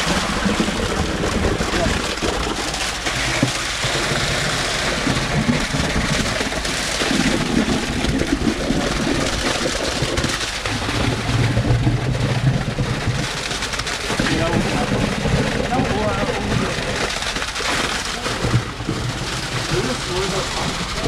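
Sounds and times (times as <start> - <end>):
concrete pump running: 0.0 - 21.0
wet concrete splattering: 0.0 - 21.0.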